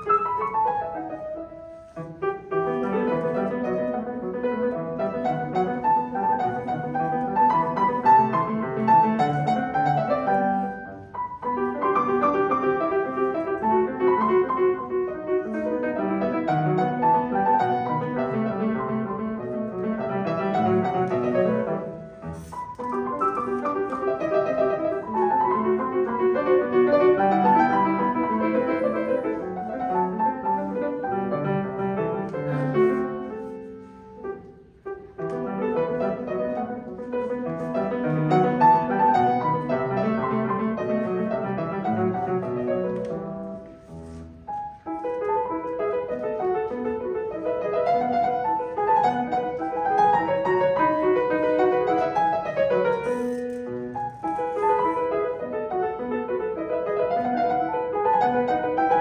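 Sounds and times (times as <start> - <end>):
classical piano piece: 0.0 - 59.0.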